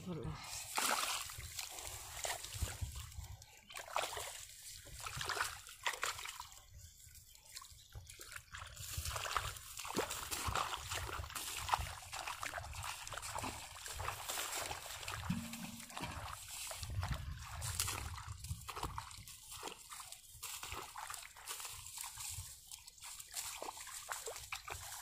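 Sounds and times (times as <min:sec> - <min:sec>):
water splashing and sloshing: 0:00.0 - 0:25.0
bare feet wading through water: 0:00.5 - 0:25.0.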